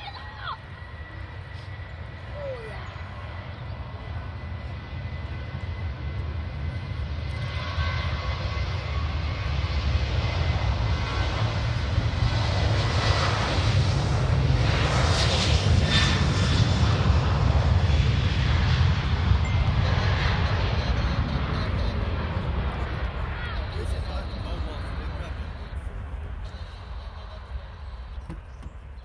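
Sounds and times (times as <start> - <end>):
jet engines deep rumble: 0.0 - 29.0.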